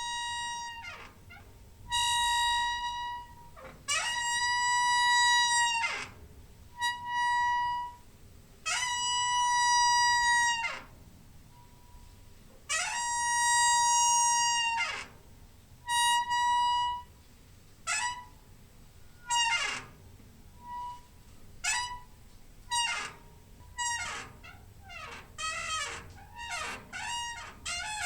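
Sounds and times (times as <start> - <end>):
door hinge squeaking: 0.0 - 6.2, 8.7 - 12.1, 12.7 - 15.2, 15.9 - 17.1, 17.9 - 18.4, 19.1 - 28.0.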